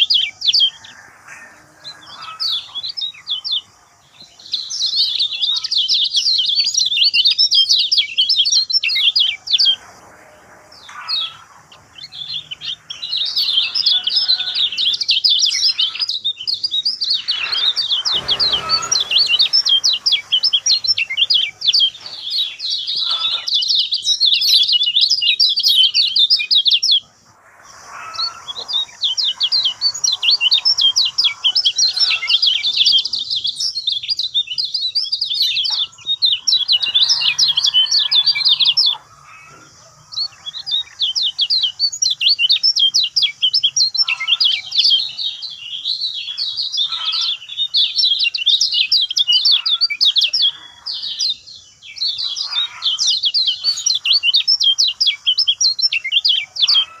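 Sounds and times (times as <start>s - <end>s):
songbird chattering trills: 0.0s - 57.0s.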